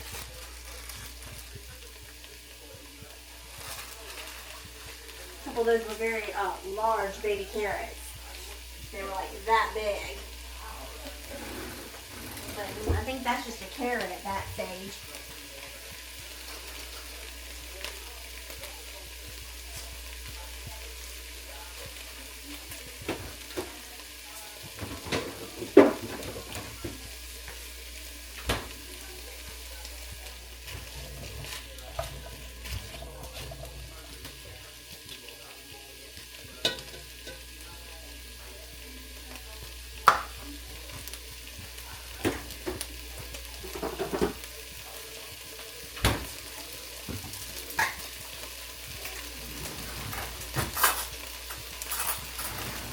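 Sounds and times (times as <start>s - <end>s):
food sizzling in a hot pan: 0.0s - 52.9s.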